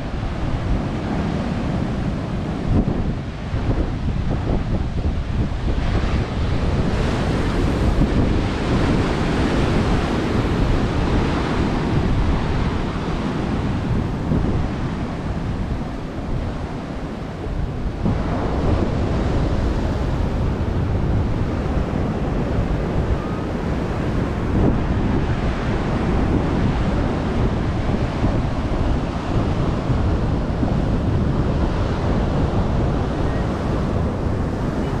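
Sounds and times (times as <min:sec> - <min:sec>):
ocean waves breaking: 0:00.0 - 0:35.0
wind rumbling on microphone: 0:00.0 - 0:35.0.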